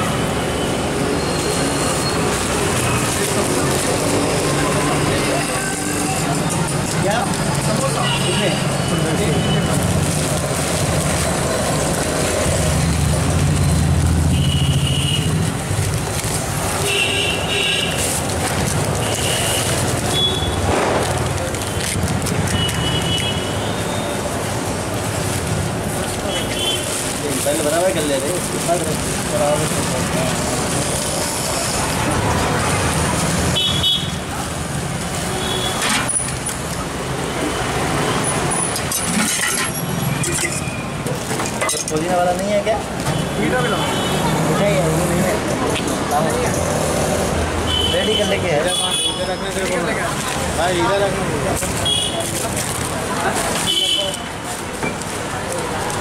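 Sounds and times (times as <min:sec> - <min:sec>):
busy road traffic rumbling: 0:00.0 - 0:56.0.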